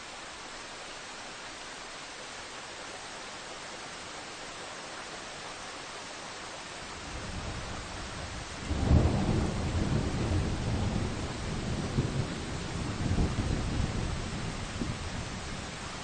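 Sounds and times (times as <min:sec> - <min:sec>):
rain hissing on forest: 0:00.0 - 0:16.0.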